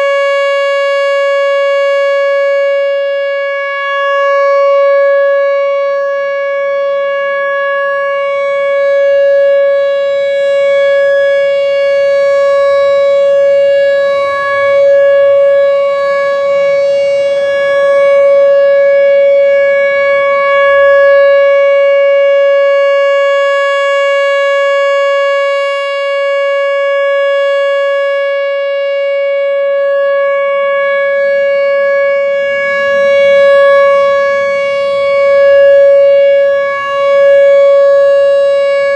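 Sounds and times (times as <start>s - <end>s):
outdoor warning siren tone: 0.0s - 38.9s.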